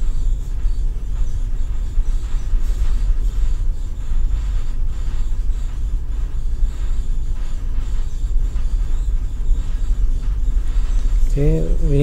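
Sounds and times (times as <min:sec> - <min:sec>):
engine room machinery rumble: 0:00.0 - 0:12.0.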